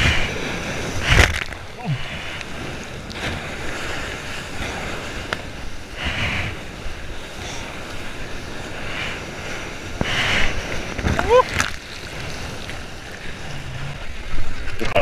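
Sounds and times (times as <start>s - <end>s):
ocean swell sloshing: 0.0s - 15.0s
whitewater rushing: 0.0s - 15.0s.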